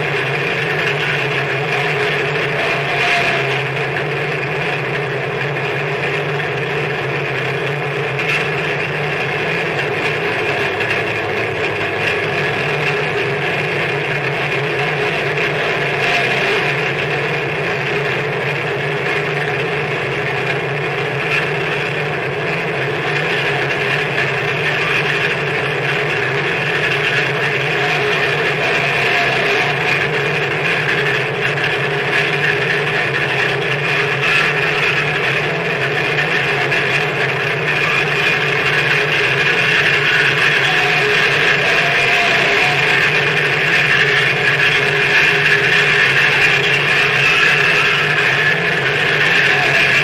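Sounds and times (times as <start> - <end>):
harsh distorted noise music: 0.0 - 50.0.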